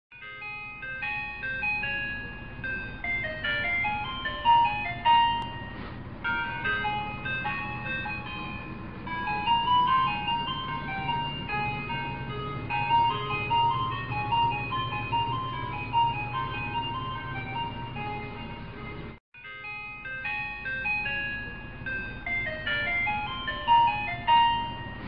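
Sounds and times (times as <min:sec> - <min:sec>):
simple background melody: 0:00.2 - 0:25.0.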